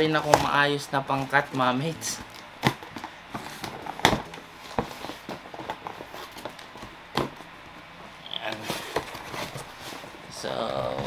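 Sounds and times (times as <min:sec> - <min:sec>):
cardboard box rustling: 0:01.2 - 0:07.5, 0:08.5 - 0:11.0.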